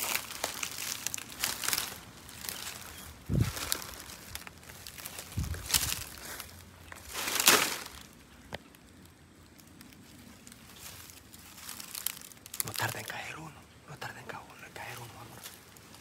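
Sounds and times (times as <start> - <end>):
footsteps crunching on dry leaves: 0.0 - 8.7, 9.8 - 13.2, 14.8 - 16.0.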